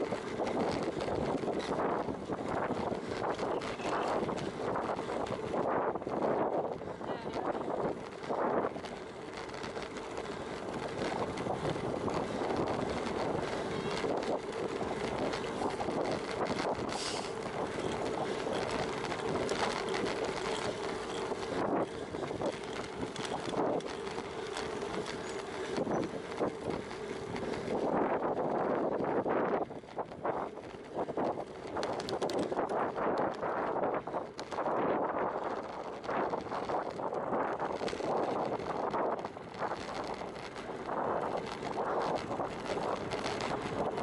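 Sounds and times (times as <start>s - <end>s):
bicycle tyres on tarmac: 0.0s - 44.0s.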